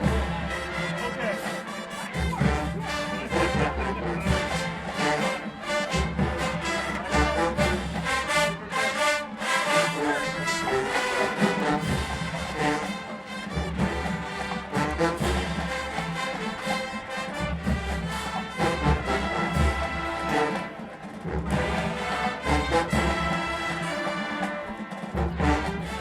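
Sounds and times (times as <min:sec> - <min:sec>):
marching band brass: 0:00.0 - 0:26.0
marching band drums: 0:00.0 - 0:26.0.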